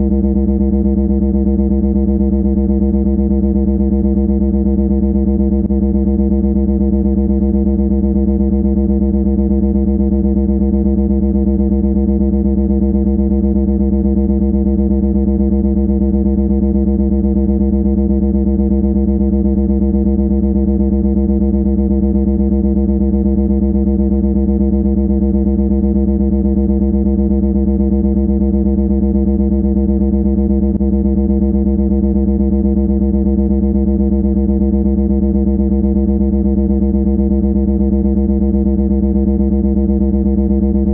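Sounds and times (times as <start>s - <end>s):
low buzzing drone: 0.0s - 40.9s.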